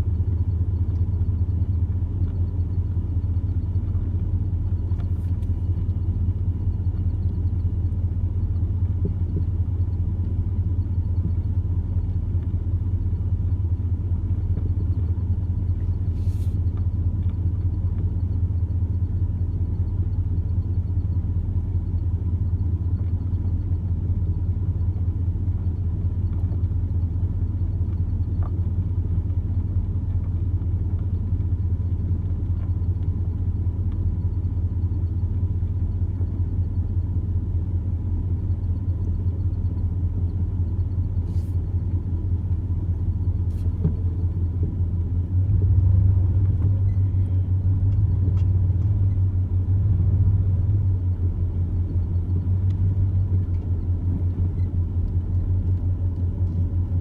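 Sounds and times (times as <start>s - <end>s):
low pulsing rumble: 0.0s - 57.0s.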